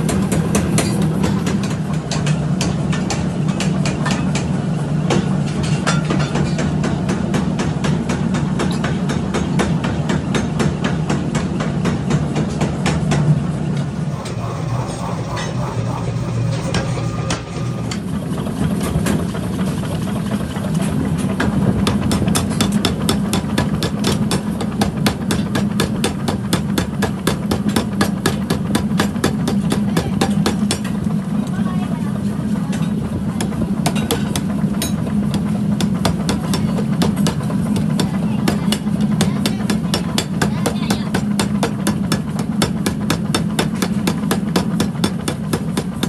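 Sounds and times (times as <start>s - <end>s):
hammer motor hum: 6.7s - 31.6s, 32.2s - 46.0s.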